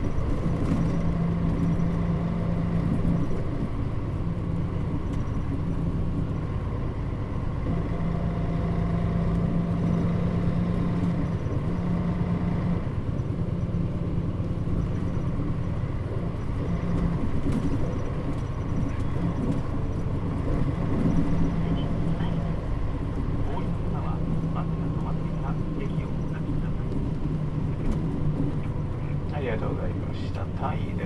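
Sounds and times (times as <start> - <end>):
bus engine running: 0.0 - 31.0
road noise: 0.0 - 31.0.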